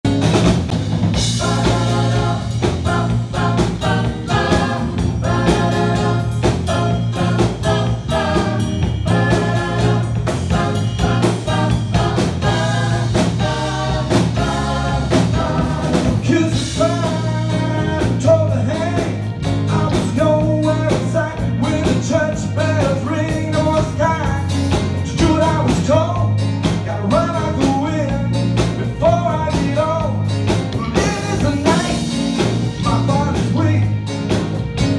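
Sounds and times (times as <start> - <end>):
bass guitar: 0.0 - 34.9
drum kit: 0.0 - 34.9
keyboards: 0.0 - 34.9.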